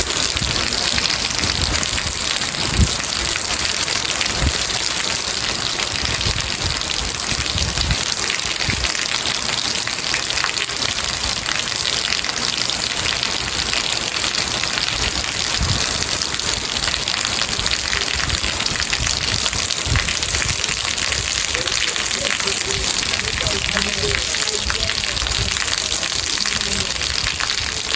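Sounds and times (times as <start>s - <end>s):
heavy rain: 0.0s - 27.9s.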